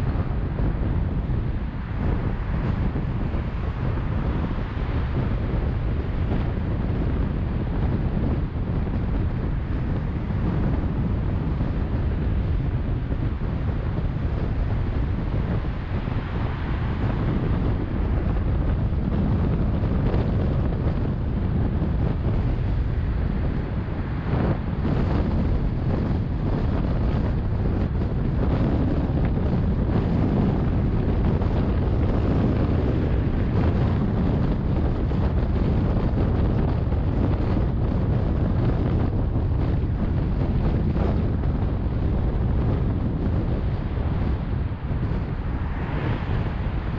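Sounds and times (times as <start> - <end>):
rushing wind: 0.0 - 46.9.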